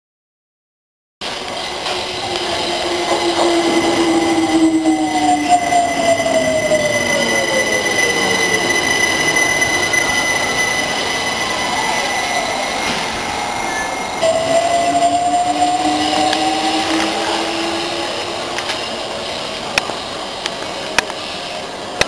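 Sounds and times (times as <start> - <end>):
electric train motor whine: 1.2 - 22.0
high-pitched squeal: 1.2 - 22.0.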